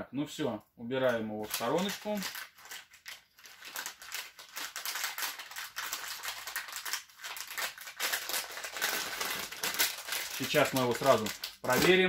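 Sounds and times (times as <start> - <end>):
plastic packaging crinkling: 1.4 - 12.0.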